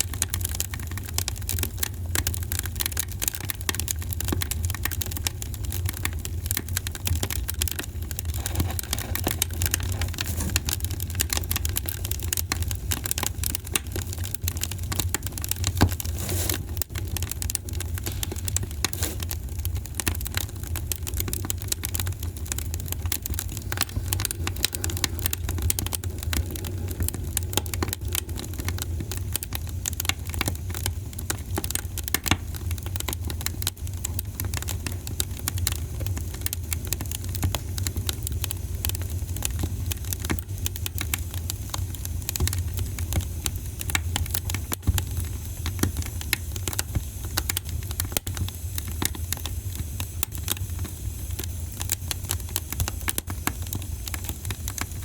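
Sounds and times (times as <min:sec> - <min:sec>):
fire low rumble: 0:00.0 - 0:55.0
wood fire crackling: 0:00.0 - 0:55.0.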